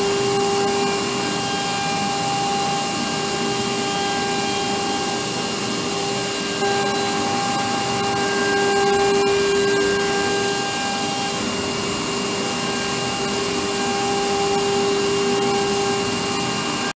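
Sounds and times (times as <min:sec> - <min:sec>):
router spindle whine: 0:00.0 - 0:16.9.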